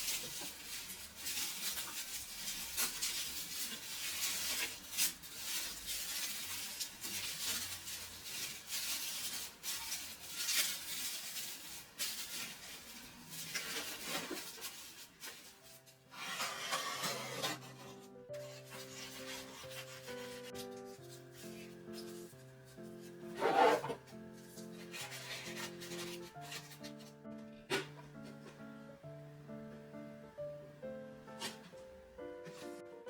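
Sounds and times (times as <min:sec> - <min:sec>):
packaging rustling and clicking: 0:00.0 - 0:28.6.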